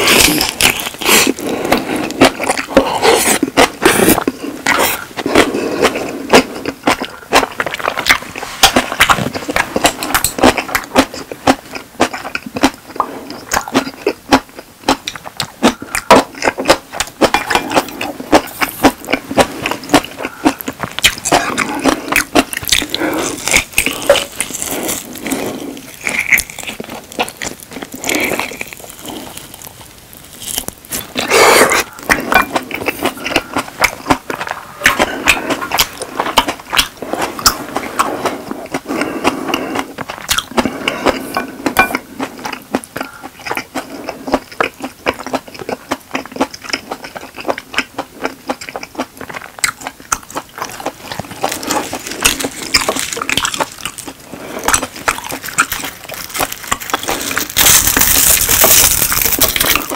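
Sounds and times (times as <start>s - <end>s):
chewing with mouth clicks: 0.0s - 59.9s.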